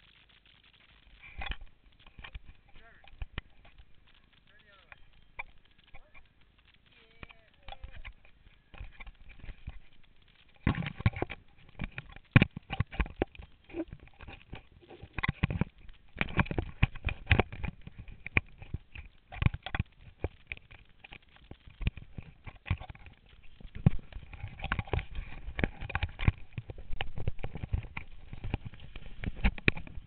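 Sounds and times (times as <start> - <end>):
fingers handling camera microphone: 1.2 - 30.0.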